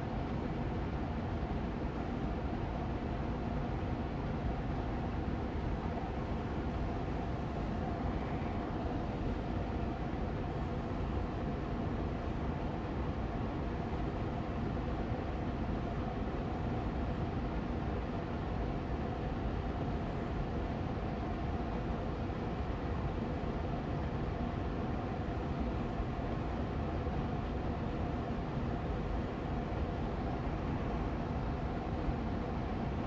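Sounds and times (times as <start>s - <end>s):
air purifier fan rushing air: 0.0s - 33.0s
faint steady hum: 0.0s - 33.0s.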